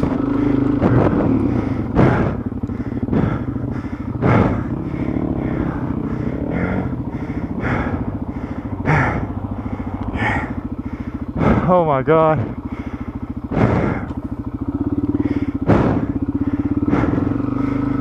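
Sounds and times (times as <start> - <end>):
motorcycle engine at low speed: 0.0 - 18.0.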